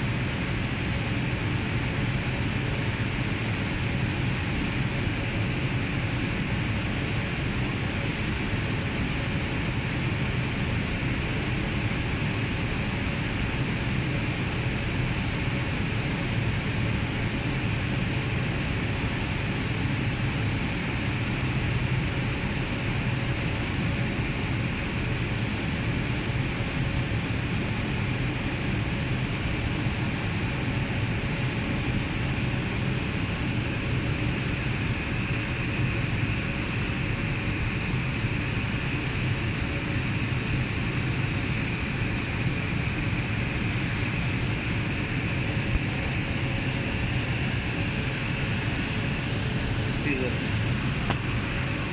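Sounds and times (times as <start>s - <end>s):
cooling fans rushing: 0.0s - 51.9s.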